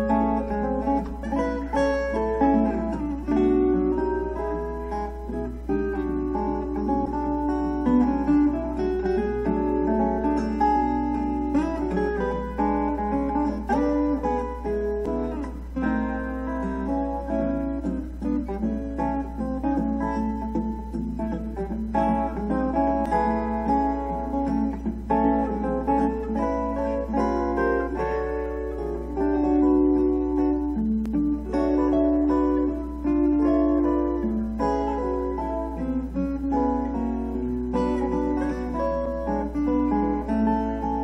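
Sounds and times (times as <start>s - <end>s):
acoustic guitar music: 0.0s - 41.0s.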